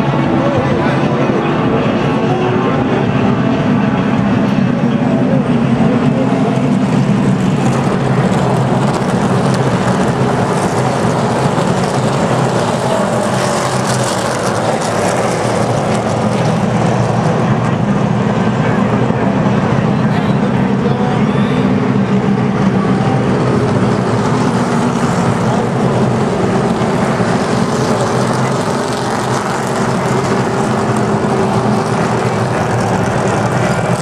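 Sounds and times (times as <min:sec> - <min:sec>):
truck engines droning: 0:00.0 - 0:34.0.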